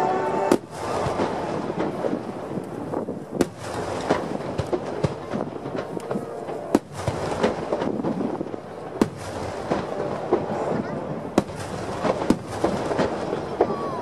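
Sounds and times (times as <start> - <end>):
loud firework bangs: 0.0 - 14.0
fireworks pops and crackles: 0.5 - 14.0.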